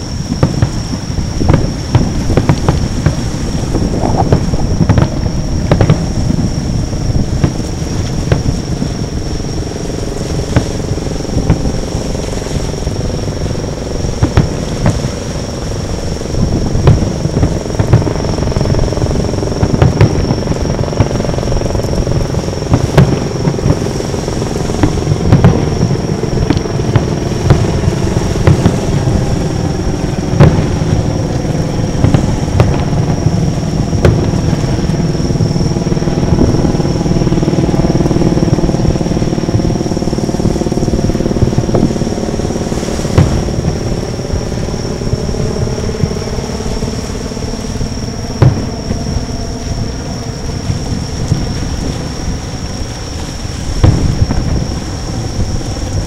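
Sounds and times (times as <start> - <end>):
continuous low rumble: 0.0 - 56.0
fireworks bursting: 0.0 - 56.0.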